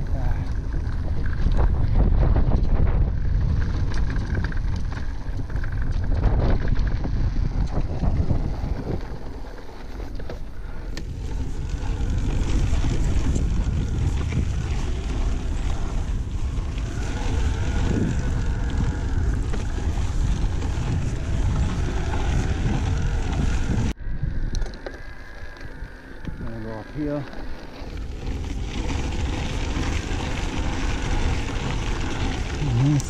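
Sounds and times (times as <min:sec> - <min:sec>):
tyres rumbling on dirt: 0:00.0 - 0:24.0, 0:24.7 - 0:33.0
wind buffeting microphone: 0:00.0 - 0:33.0.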